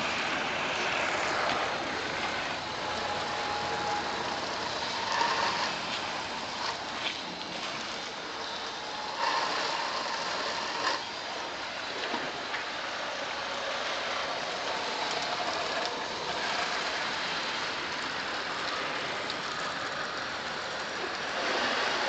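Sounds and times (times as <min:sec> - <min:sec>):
hose water spraying on car: 0:00.0 - 0:22.0.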